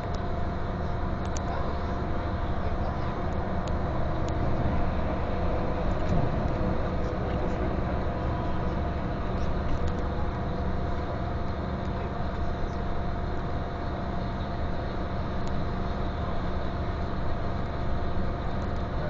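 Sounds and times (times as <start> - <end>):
coach engine drone: 0.0 - 19.0
faint steady whine: 0.0 - 19.0
road rumble: 0.0 - 19.0.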